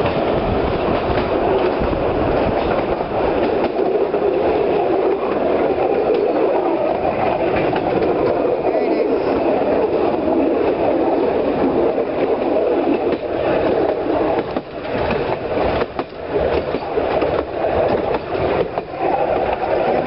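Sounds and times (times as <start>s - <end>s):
train clacks and knocks: 0.0s - 20.0s
train wheels rumbling on rails: 0.0s - 20.0s.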